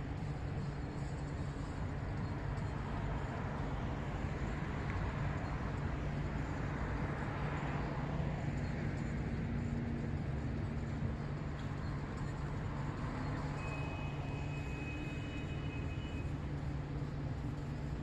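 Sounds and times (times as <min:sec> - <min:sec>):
cars passing by: 0:00.0 - 0:18.0.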